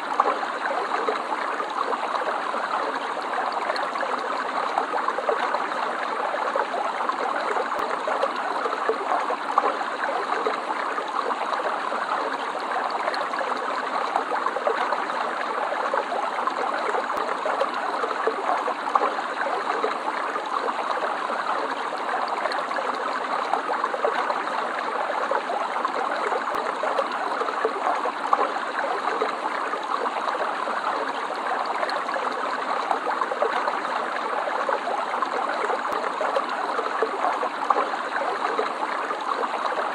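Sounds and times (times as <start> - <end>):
stream water gurgling over stones: 0.0 - 39.9.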